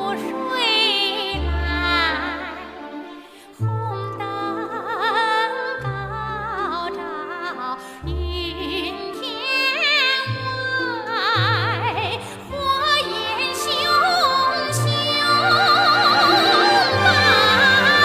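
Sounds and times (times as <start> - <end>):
operatic singing: 0.0 - 18.0.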